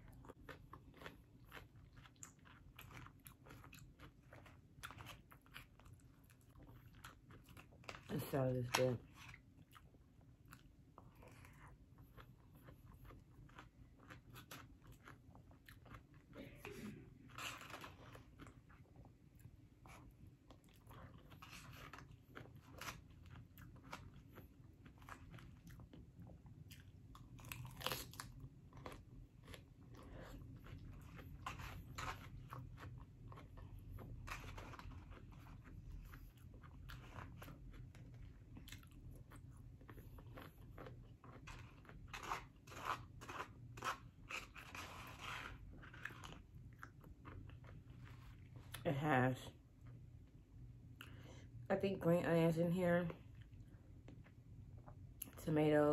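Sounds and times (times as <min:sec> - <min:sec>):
crunching and chewing salad: 0:00.0 - 0:51.7.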